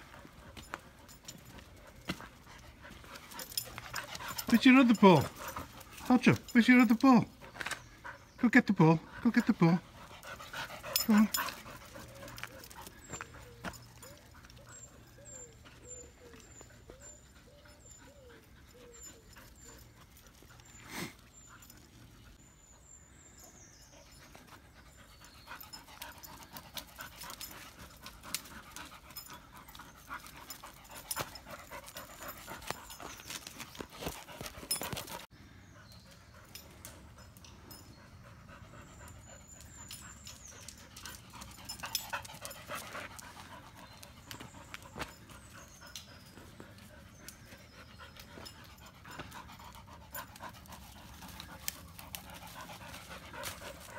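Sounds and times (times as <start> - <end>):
dog panting: 0.0 - 23.0, 23.8 - 53.9.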